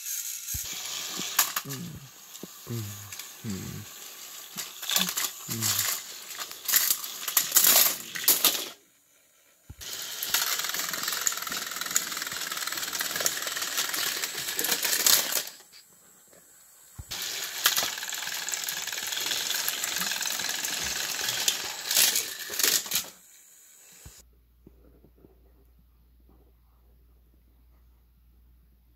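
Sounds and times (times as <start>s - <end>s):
toy train motors whirring: 0.0s - 15.9s, 16.8s - 24.2s.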